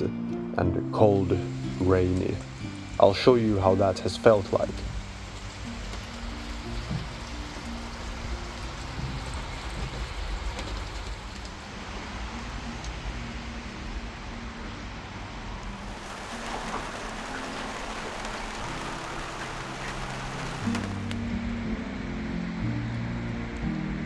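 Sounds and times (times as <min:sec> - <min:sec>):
steady rain falling: 0:00.0 - 0:21.4
soft background music: 0:00.0 - 0:24.0.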